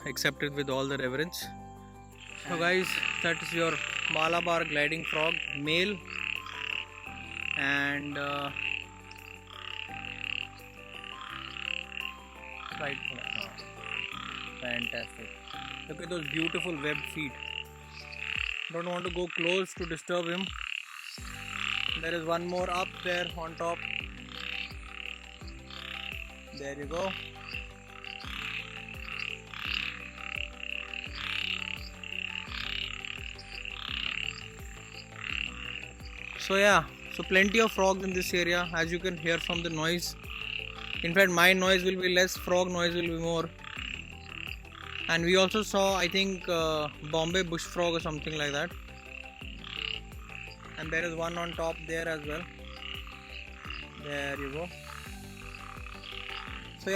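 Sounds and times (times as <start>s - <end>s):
frogs calling: 0.0s - 56.9s.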